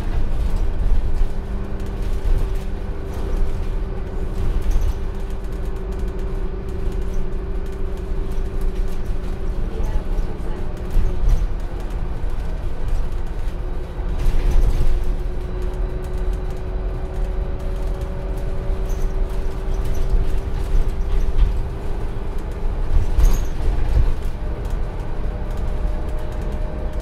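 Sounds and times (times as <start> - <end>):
bus diesel engine rumble: 0.0 - 27.0
drivetrain whine: 0.0 - 27.0.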